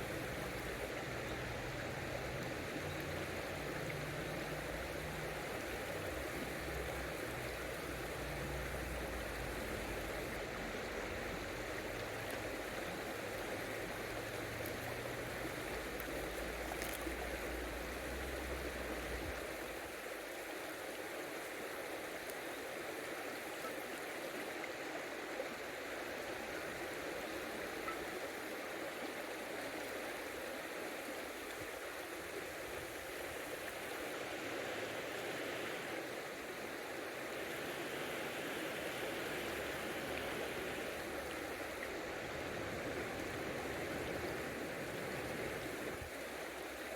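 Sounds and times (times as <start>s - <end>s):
river water flowing over stones: 0.0s - 46.9s.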